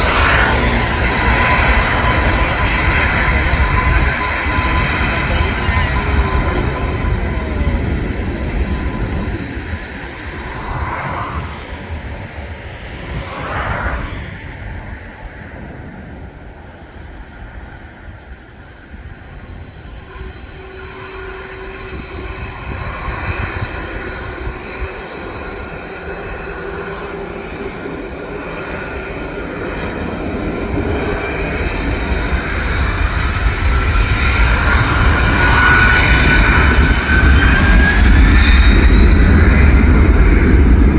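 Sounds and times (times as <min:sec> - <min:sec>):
jet engines running: 0:00.0 - 0:40.9
rising engine whine: 0:00.0 - 0:40.9.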